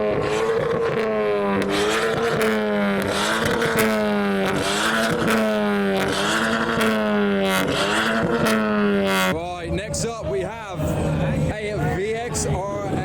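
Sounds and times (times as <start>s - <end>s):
car engine revving at limiter: 0.0s - 13.0s
exhaust cracks: 0.0s - 13.0s.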